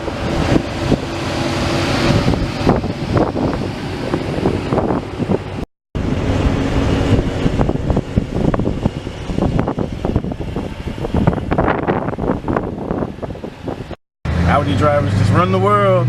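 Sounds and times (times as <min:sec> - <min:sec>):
wind buffeting microphone: 0:00.0 - 0:14.0
car engine and road rumble: 0:00.0 - 0:16.0.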